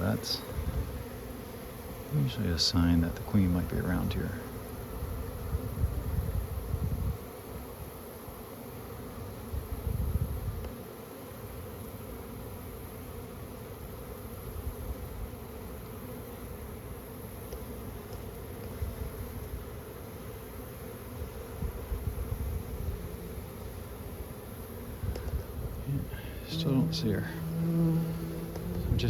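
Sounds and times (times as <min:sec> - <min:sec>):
bees buzzing: 0:00.0 - 0:09.8, 0:10.6 - 0:29.0.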